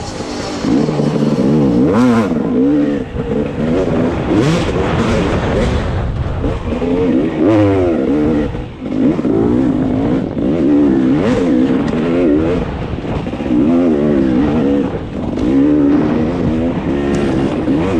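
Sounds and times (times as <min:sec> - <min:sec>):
dirt bike engine revving: 0:00.0 - 0:17.9.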